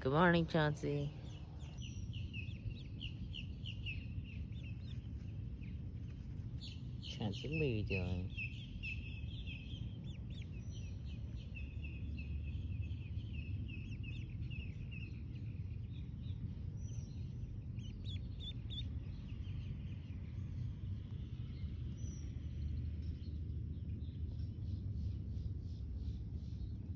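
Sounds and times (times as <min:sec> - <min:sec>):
steady low rumble: 0:00.0 - 0:26.9.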